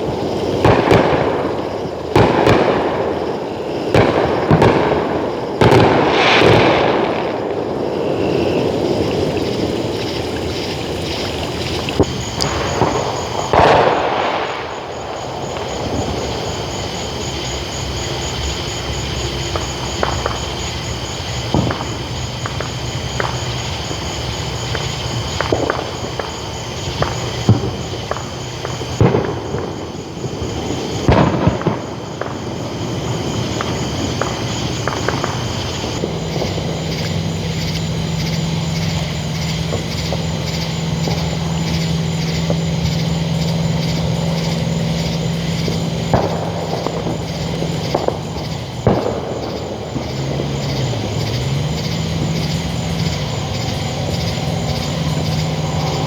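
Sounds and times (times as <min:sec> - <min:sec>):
distant fireworks popping and booming: 0:00.0 - 0:56.0.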